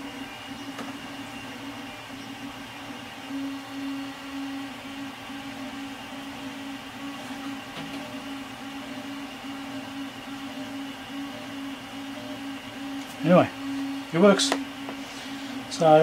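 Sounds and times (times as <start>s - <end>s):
printer stepper motors whining: 0.0s - 16.0s.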